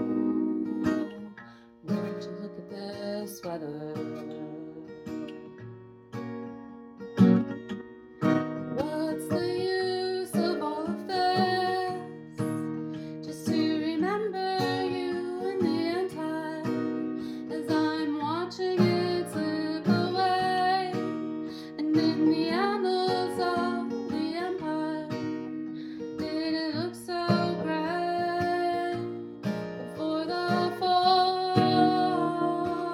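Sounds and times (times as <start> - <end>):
woman singing: 0.0 - 5.5, 8.7 - 32.9
acoustic guitar strumming: 0.0 - 32.9.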